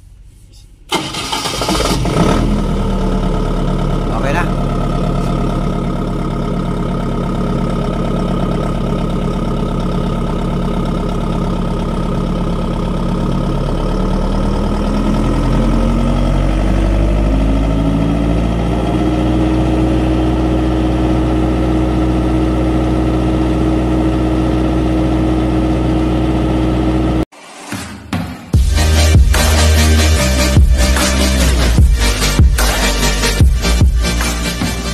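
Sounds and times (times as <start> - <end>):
generator engine running: 0.9 - 27.2, 28.6 - 34.9.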